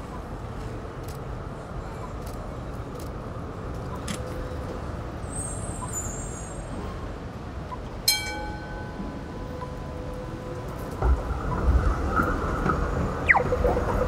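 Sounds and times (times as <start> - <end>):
tram and traffic rumbling: 0.0 - 14.0.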